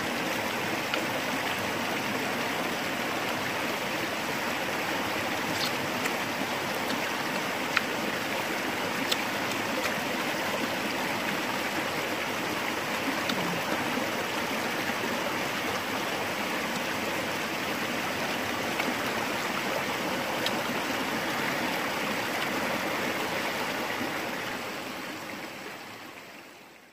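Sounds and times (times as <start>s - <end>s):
stream rushing: 0.0s - 26.6s.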